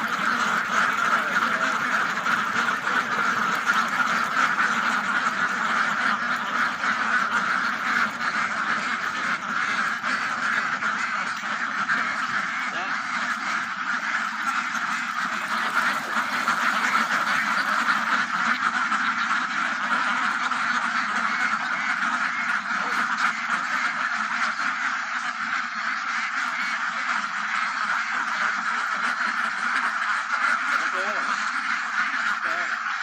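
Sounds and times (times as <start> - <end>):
ducks quacking: 0.0 - 33.0.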